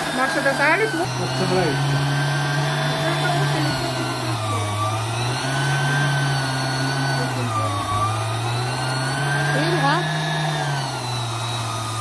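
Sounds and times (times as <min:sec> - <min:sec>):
meat grinder motor humming: 0:00.0 - 0:12.0.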